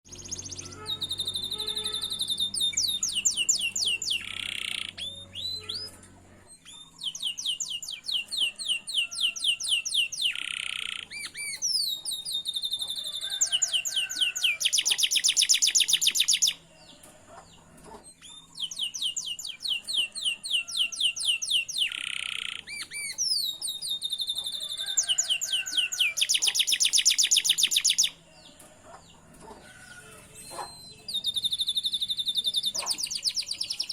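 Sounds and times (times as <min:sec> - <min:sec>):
canary singing trills: 0:00.1 - 0:33.9.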